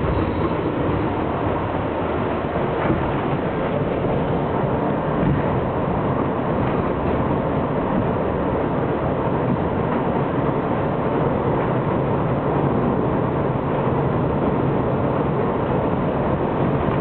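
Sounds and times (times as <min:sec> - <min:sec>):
subway train wheels rumbling: 0:00.0 - 0:17.0.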